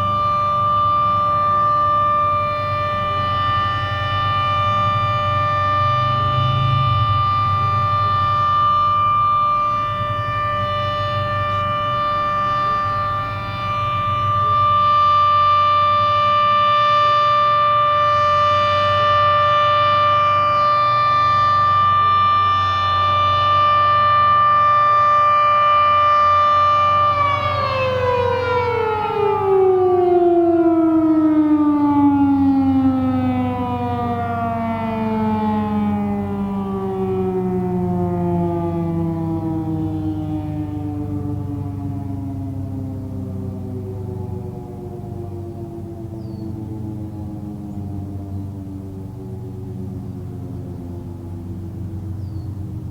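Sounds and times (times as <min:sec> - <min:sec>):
warning siren winding down: 0:00.0 - 0:52.9.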